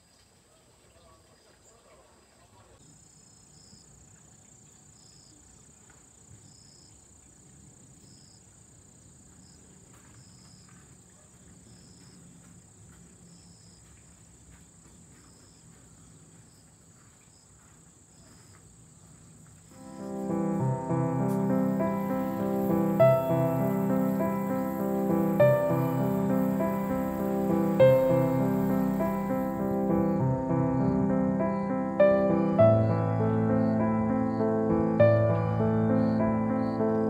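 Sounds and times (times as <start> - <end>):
insect chirp: 0.0 - 37.0
insects trilling: 1.0 - 37.0.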